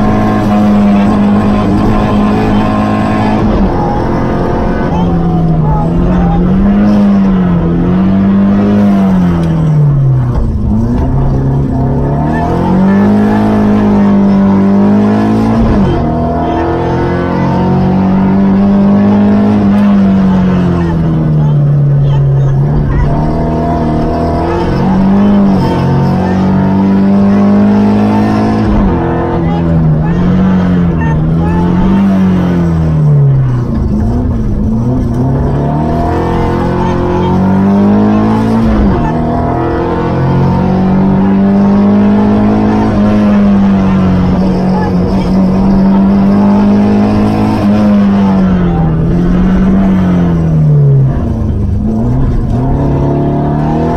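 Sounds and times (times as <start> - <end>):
car engine revving from inside cabin: 0.0 - 53.9.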